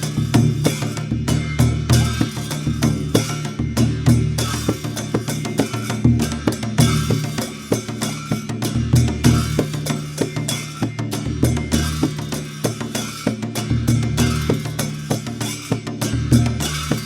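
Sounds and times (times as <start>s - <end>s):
barrel drum fast rhythm: 0.0s - 17.0s.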